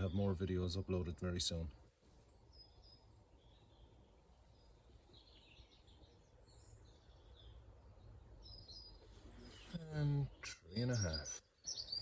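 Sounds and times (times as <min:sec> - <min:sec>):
faint bird chirps: 0:02.1 - 0:12.0.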